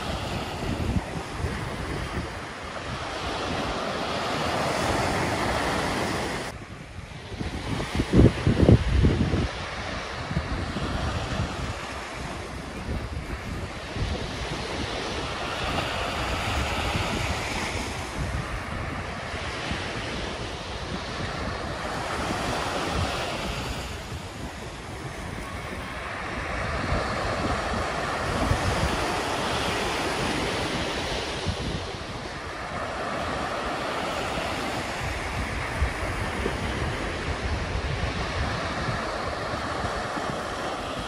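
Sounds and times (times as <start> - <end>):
waves washing on shore: 0.0 - 41.0
wind rumble on microphone: 0.0 - 41.0.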